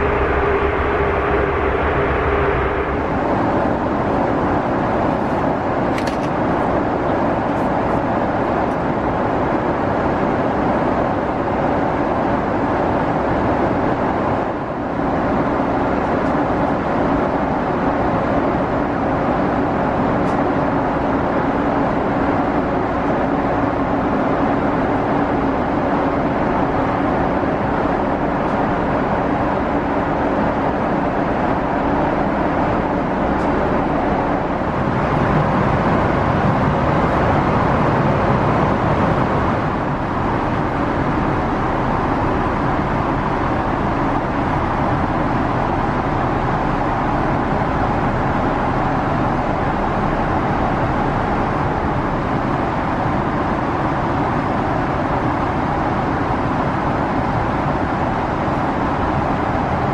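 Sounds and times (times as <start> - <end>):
aircraft cabin noise: 0.0 - 59.9
low steady hum: 0.0 - 59.9.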